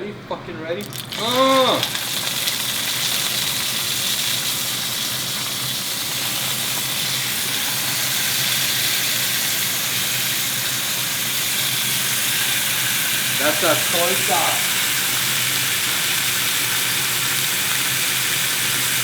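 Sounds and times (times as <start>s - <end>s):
food sizzling in hot oil: 0.8s - 19.0s.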